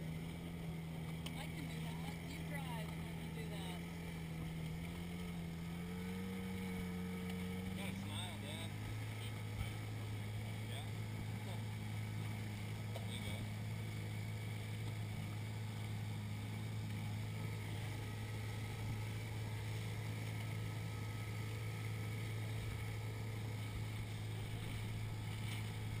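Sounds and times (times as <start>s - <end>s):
outboard motor droning: 0.0s - 26.0s.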